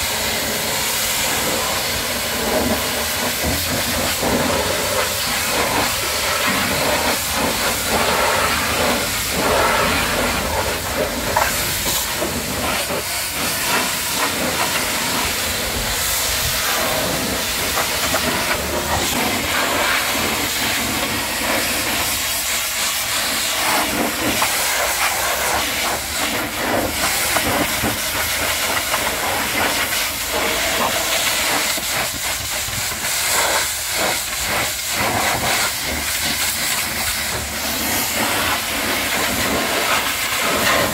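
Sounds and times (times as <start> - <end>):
pressure washer spraying metal: 0.0 - 40.9.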